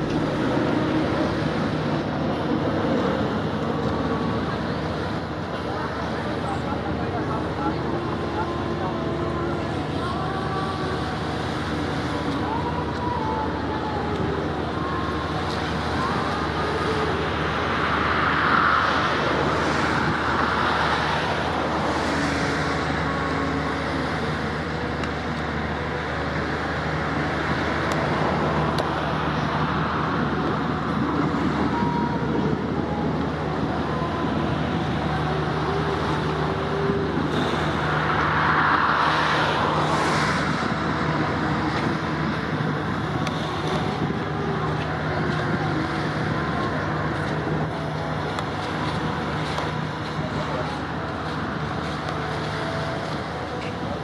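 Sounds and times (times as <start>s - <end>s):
road traffic noise: 0.0s - 54.0s
vehicles passing: 0.0s - 54.0s.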